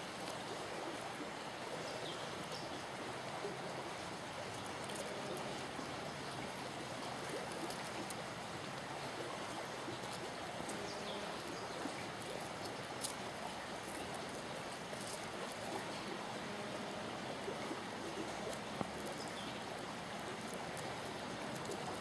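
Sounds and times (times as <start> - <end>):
outdoor ambience hiss: 0.0 - 22.0.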